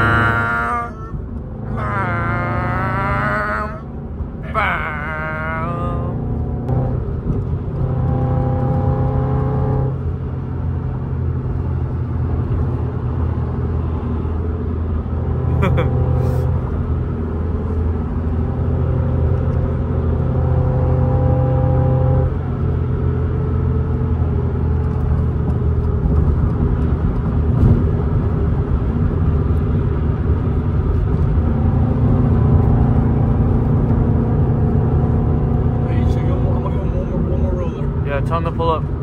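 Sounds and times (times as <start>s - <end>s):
car engine rumbling: 0.0s - 39.0s.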